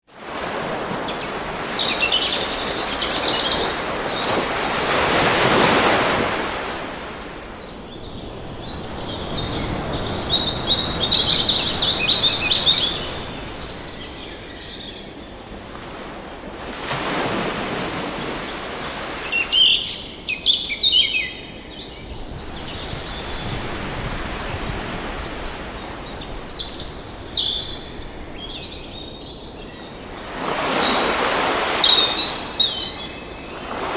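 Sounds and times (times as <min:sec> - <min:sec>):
ocean waves washing onto shore: 0:00.1 - 0:20.9, 0:21.6 - 0:33.9
birds chirping and singing: 0:01.4 - 0:16.0, 0:19.4 - 0:33.6.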